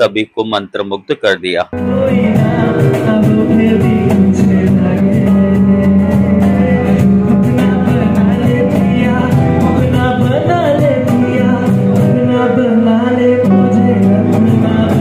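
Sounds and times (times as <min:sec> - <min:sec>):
instrumental accompaniment: 0:01.7 - 0:15.0
man singing into microphone: 0:01.7 - 0:15.0.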